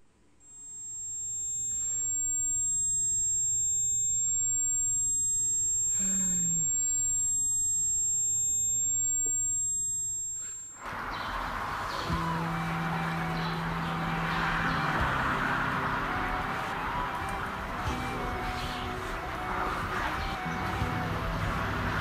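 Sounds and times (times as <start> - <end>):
high-pitched ringing tone: 0.4 - 10.9, 12.0 - 22.0.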